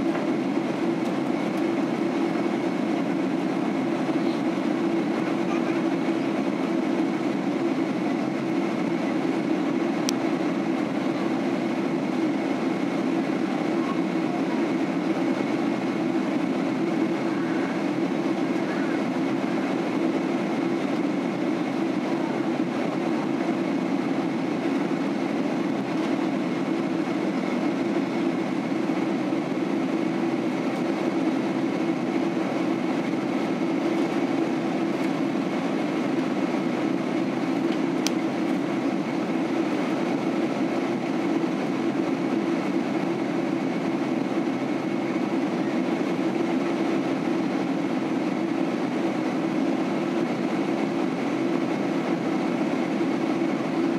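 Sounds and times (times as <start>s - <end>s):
airliner cabin engine drone: 0.0s - 53.9s.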